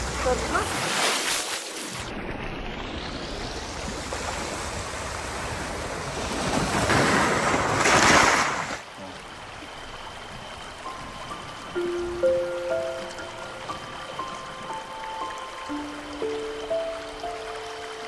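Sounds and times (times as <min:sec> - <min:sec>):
sea waves washing in: 0:00.0 - 0:18.0.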